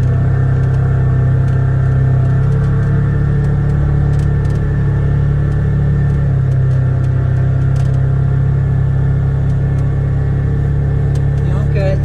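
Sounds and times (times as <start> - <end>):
vehicle engine low drone: 0.0 - 12.0.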